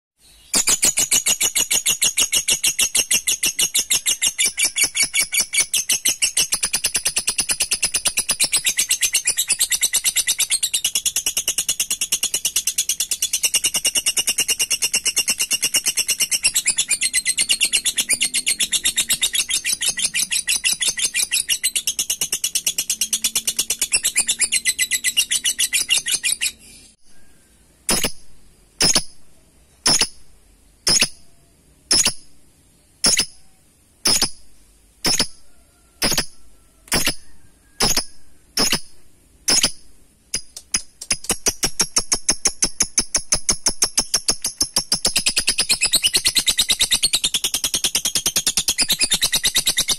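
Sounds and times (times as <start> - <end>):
sharp bird chirps: 0.2 - 49.9
lovebird chattering trill: 0.4 - 29.2, 29.8 - 32.3, 33.0 - 34.4, 35.0 - 38.9, 39.5 - 49.9.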